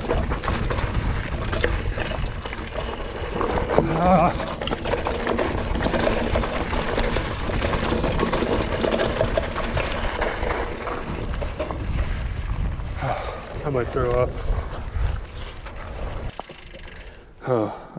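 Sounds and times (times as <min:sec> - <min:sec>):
bike rattling and clicking: 0:00.0 - 0:17.4
bike tyre noise on dirt: 0:00.0 - 0:17.4.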